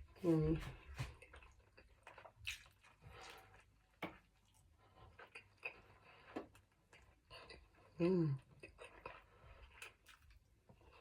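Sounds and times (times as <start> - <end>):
faint eating clicks and scrapes: 0.1 - 11.0.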